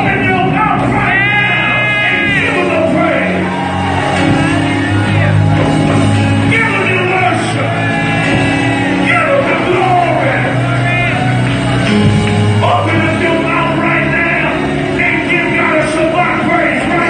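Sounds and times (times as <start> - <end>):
live gospel band music: 0.0 - 17.0.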